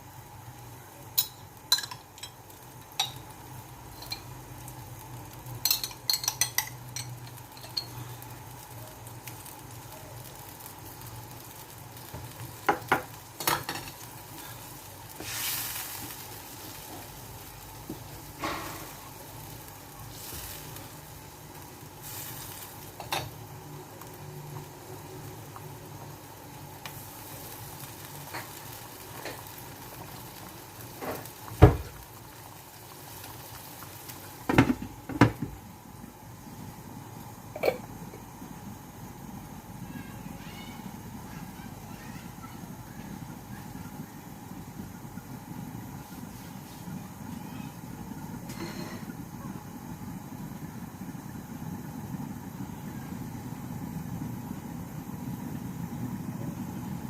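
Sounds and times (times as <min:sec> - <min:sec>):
chicken wings sizzling in a pan: 0:00.0 - 0:57.0.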